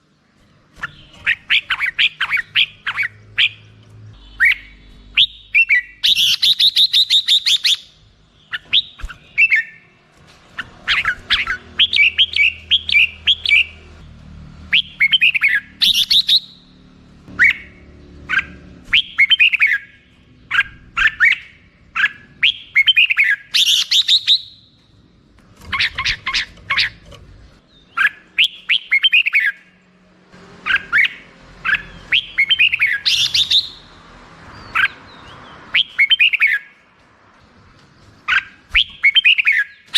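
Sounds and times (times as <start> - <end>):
bulbul singing: 0.2 - 14.0, 14.6 - 29.8, 30.6 - 36.8, 38.2 - 39.9.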